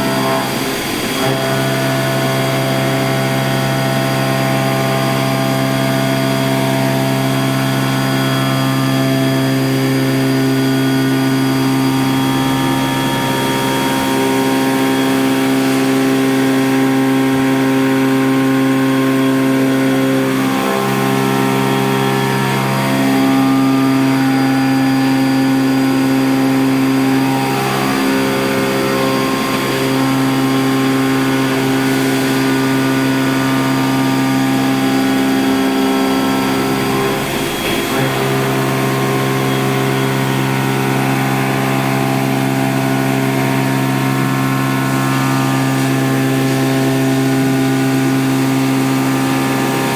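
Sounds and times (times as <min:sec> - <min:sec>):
milling machine whine: 0:00.0 - 0:49.9.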